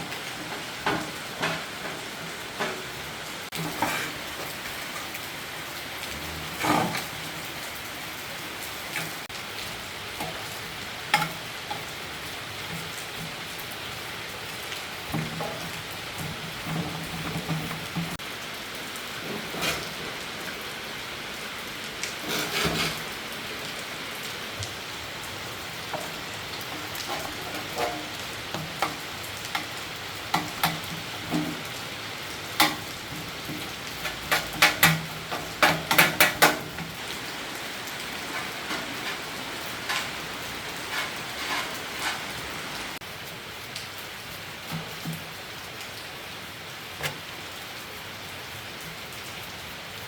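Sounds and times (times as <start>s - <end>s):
heavy rain hiss: 0.0s - 50.0s.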